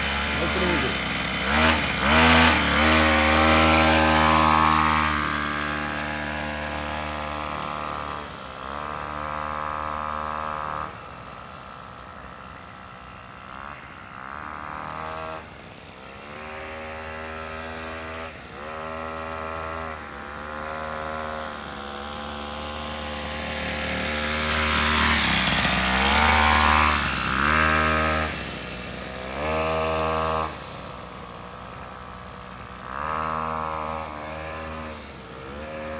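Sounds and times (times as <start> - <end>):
dirt bike engine revving: 0.0 - 10.9, 16.2 - 31.1, 31.9 - 35.9.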